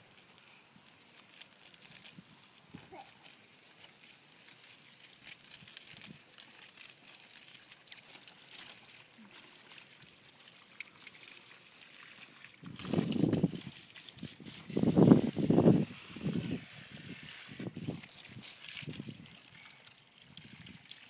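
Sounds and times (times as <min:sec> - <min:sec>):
garden hose spraying water: 0:00.0 - 0:21.0
water splashing on plants: 0:00.0 - 0:21.0.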